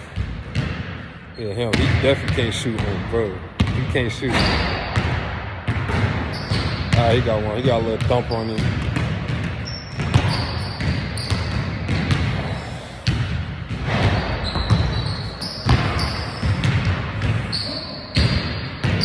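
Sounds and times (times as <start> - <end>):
basketballs bouncing on hardwood: 0.1 - 1.0, 1.7 - 17.5, 18.1 - 19.0.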